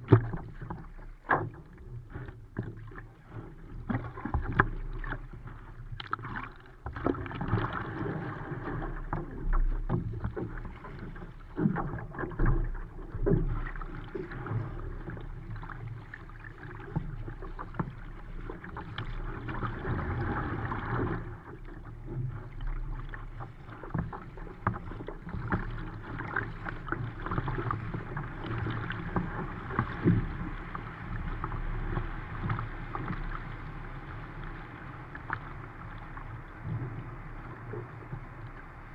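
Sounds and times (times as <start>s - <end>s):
paddle blades splashing water: 0.0s - 38.9s
water rushing along a boat hull: 0.0s - 38.9s.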